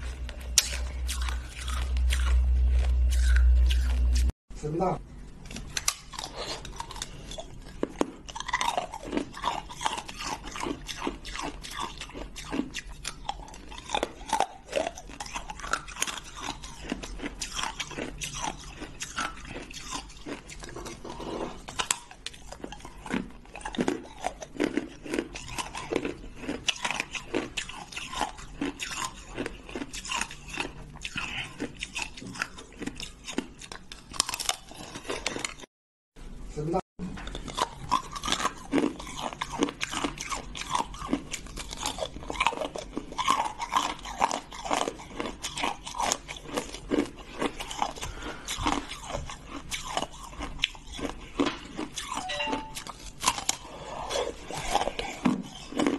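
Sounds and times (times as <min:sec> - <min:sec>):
ice being chewed: 0:00.0 - 0:04.3, 0:05.4 - 0:35.7, 0:37.1 - 0:55.9.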